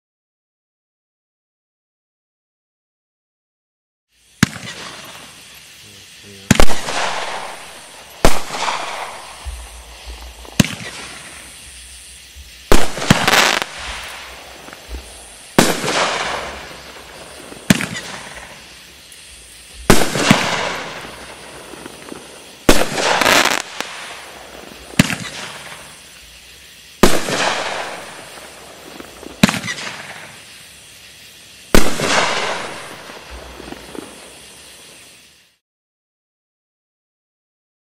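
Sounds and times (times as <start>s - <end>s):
fireworks hiss and crackle: 4.1s - 35.6s
fireworks reports: 4.2s - 35.6s.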